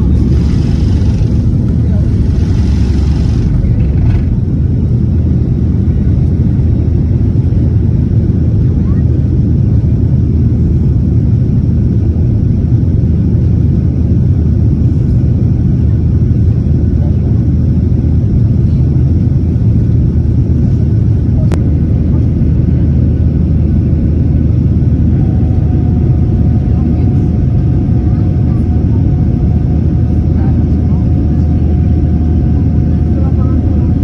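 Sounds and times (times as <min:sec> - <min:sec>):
jet engine cabin rumble: 0:00.0 - 0:34.0.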